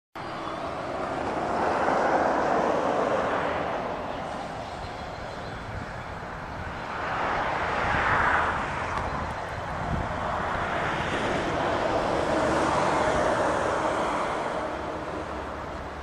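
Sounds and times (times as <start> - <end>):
vehicle passing tyre and engine: 0.2 - 16.0.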